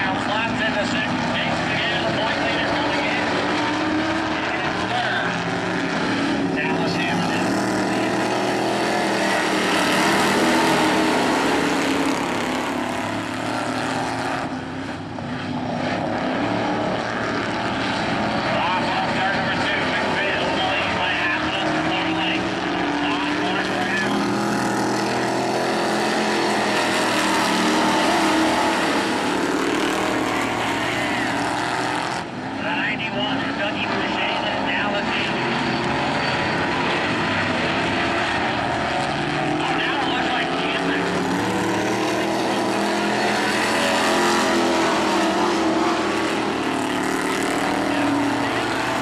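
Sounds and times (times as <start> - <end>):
race car engines: 0.0 - 49.0.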